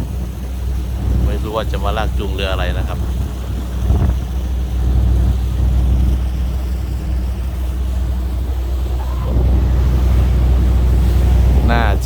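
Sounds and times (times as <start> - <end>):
tugboat engine rumbling: 0.0 - 12.0.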